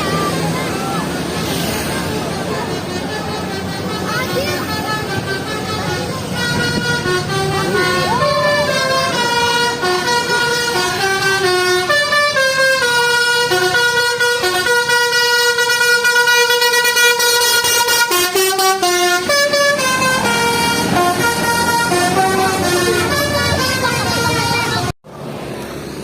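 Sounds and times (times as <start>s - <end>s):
bus air horn playing tune: 2.0s - 25.0s.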